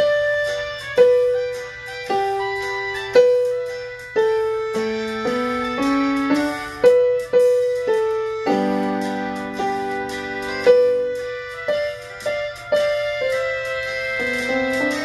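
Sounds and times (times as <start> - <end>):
electronic keyboard piano melody: 0.0 - 15.0.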